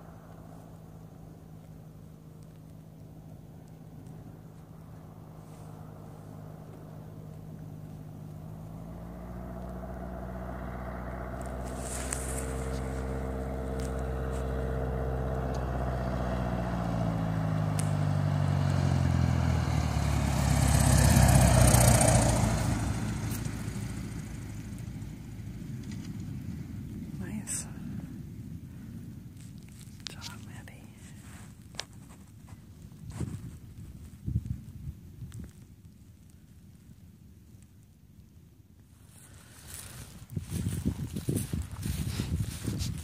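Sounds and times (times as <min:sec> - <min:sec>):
light aircraft engine droning: 0:00.0 - 0:43.0.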